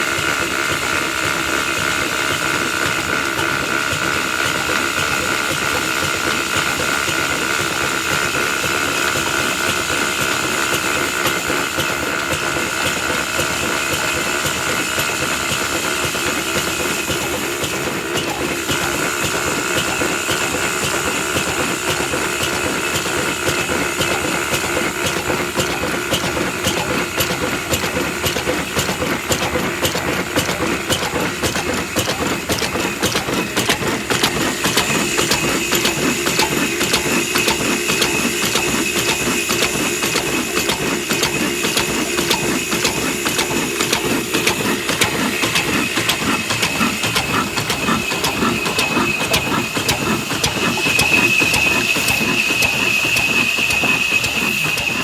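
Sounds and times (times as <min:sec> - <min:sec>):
diesel engine clattering: 0:00.0 - 0:55.0.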